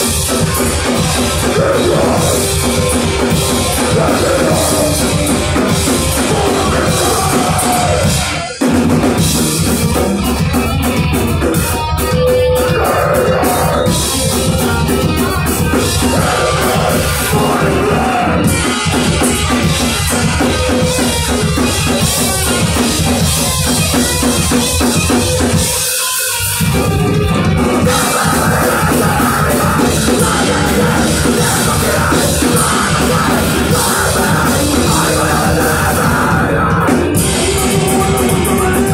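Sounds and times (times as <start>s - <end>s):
pounding drum kit: 0.0s - 38.9s
punk band playing loud: 0.0s - 38.9s.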